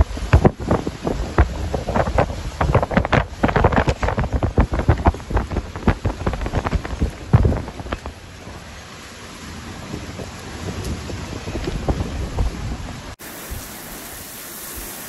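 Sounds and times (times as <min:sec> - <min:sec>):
wind buffeting microphone: 0:00.0 - 0:15.0
wind rushing: 0:00.0 - 0:15.0.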